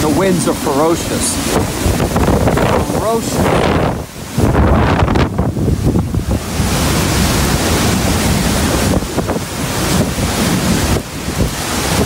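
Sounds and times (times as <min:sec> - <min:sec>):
hurricane wind blowing: 0:00.0 - 0:12.0.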